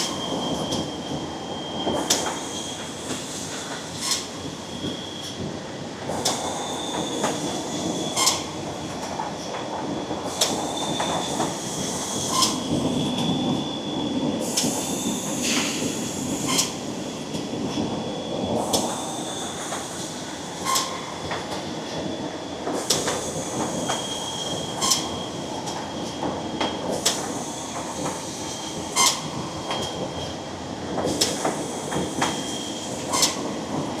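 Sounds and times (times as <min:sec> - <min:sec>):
machine whine and hiss: 0:00.0 - 0:34.0.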